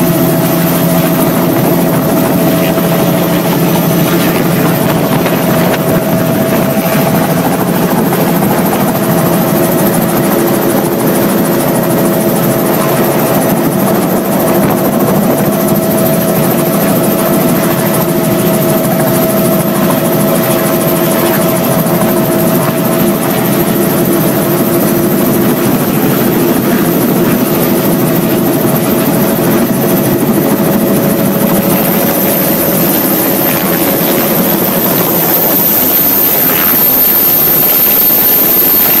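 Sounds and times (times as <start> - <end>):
helicopter engine and rotor drone: 0.0 - 39.0
high whine: 0.0 - 39.0.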